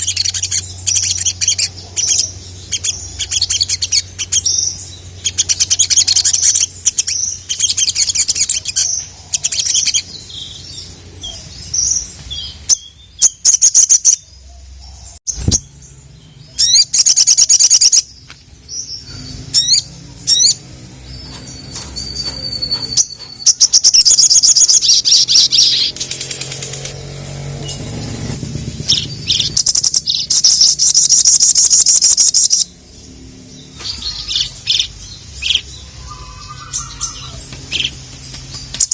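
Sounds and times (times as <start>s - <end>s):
sunbird chattering trills: 0.0s - 15.5s, 18.9s - 33.0s, 33.6s - 38.9s.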